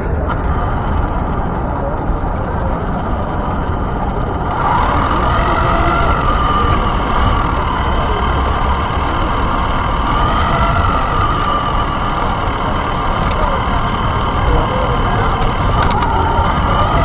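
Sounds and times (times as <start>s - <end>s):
motor and drivetrain whine: 0.0s - 17.0s
tyres rumbling on pavement: 0.0s - 17.0s.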